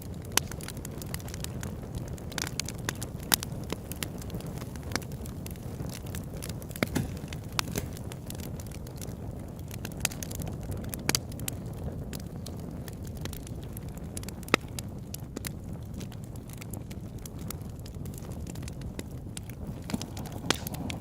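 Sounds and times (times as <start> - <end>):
loud pop from fire: 0.0 - 12.6, 13.2 - 21.0
campfire crackling: 0.0 - 21.0.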